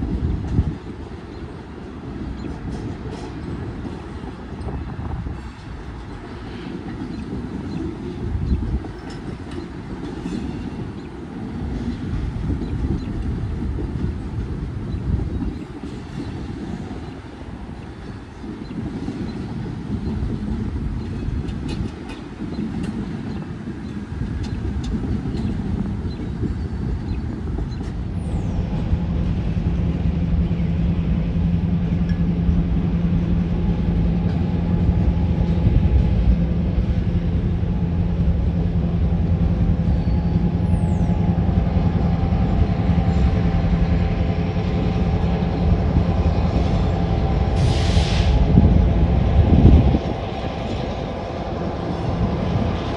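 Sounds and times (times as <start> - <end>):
locomotive engine drone: 0.0 - 52.9
train rolling past: 0.0 - 52.9.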